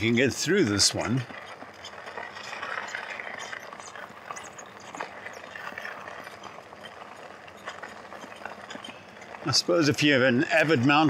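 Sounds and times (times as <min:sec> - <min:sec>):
bicycle tyres on gravel: 0:00.0 - 0:11.0.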